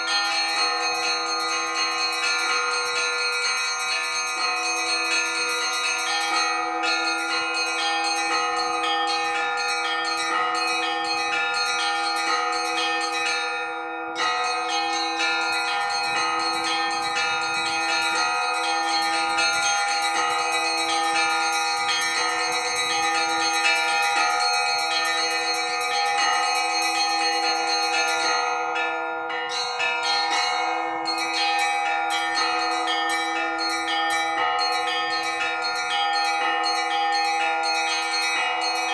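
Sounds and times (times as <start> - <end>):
hum of large bells: 0.0 - 38.9
small bells struck rapidly: 0.0 - 38.9.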